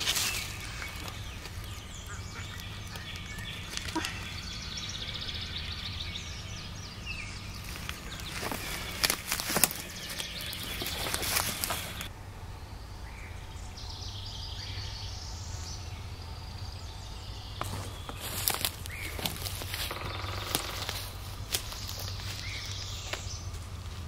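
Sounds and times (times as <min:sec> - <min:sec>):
dry leaves and twigs crackling: 0:00.0 - 0:12.1, 0:16.6 - 0:24.0
wild birds chirping: 0:00.0 - 0:24.0.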